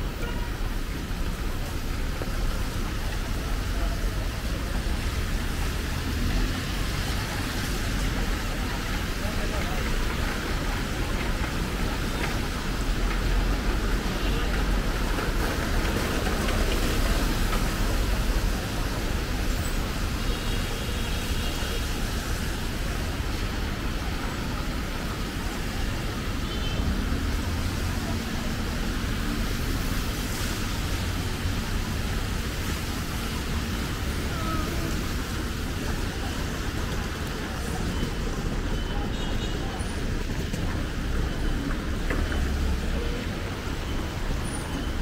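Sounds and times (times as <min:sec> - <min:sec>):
street traffic: 0:00.0 - 0:45.0.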